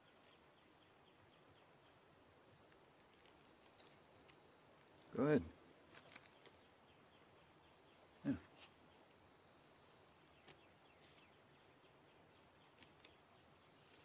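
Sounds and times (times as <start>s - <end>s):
faint woodland ambience: 0.0s - 14.0s.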